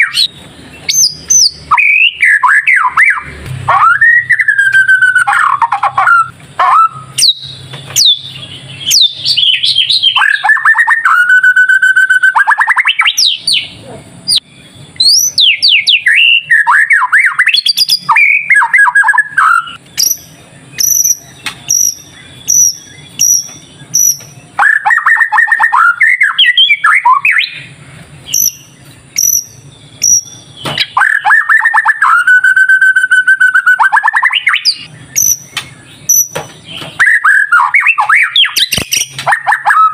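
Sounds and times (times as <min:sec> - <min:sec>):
bird singing whistled phrases: 0:00.0 - 0:27.7, 0:28.3 - 0:39.9.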